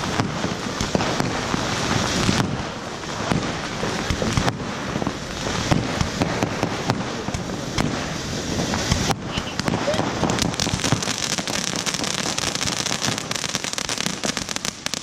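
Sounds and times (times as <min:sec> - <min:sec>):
firework crackles and pops: 0:00.0 - 0:15.0
firework fountain hissing: 0:00.0 - 0:15.0.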